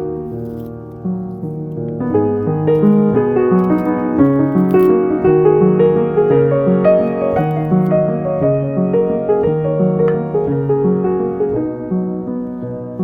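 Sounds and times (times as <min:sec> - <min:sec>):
gentle piano piece: 0:00.0 - 0:13.0.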